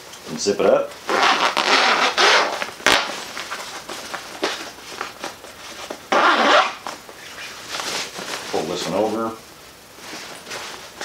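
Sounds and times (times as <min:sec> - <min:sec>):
fabric cover rustling: 0:00.9 - 0:11.0.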